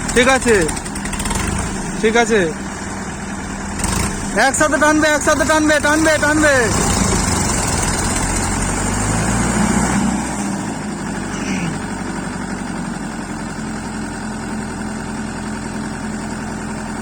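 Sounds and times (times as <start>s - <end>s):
tractor diesel engines straining: 0.0s - 17.0s.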